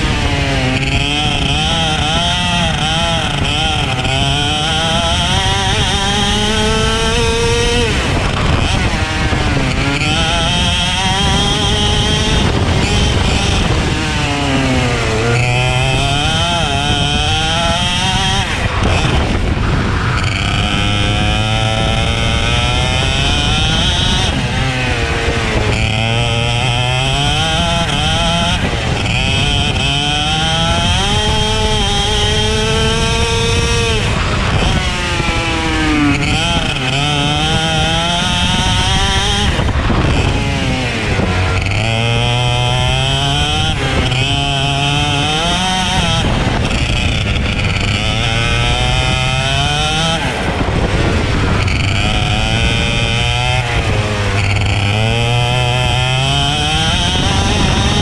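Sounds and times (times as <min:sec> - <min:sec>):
racing kart engine revving: 0:00.0 - 0:58.0.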